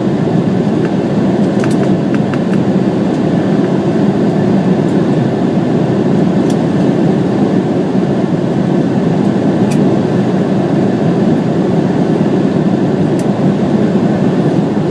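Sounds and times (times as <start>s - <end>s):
jet engines rumbling: 0.0s - 14.9s.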